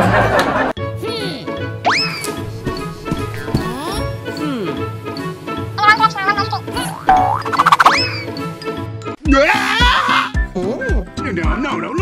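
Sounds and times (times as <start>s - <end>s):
bouncy background music: 0.0s - 12.0s.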